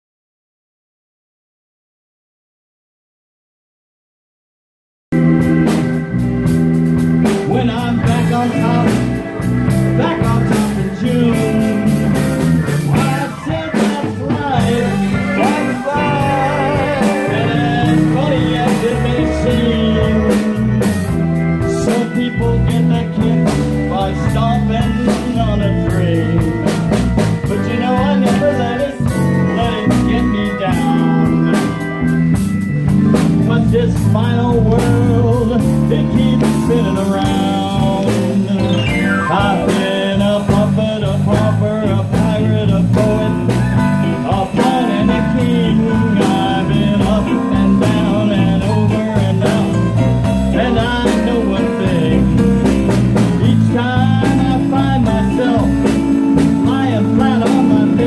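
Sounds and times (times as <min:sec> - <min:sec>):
band playing swing music: 0:05.1 - 0:58.0
man singing: 0:07.2 - 0:32.2, 0:33.1 - 0:58.0.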